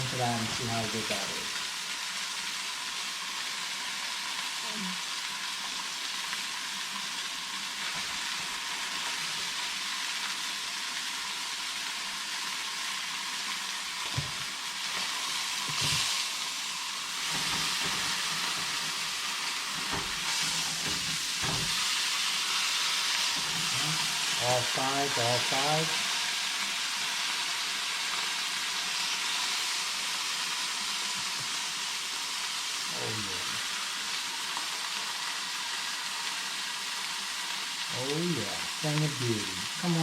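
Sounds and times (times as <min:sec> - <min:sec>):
meat sizzling in a hot pan: 0:00.0 - 0:40.0.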